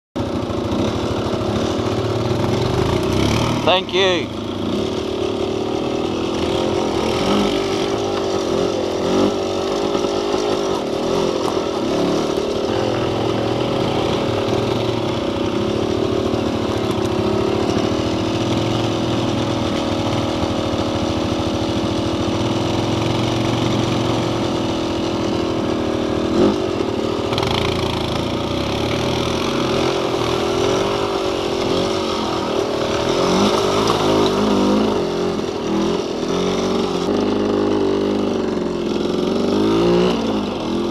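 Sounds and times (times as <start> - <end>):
off-road vehicle engine revving: 0.3 - 40.9.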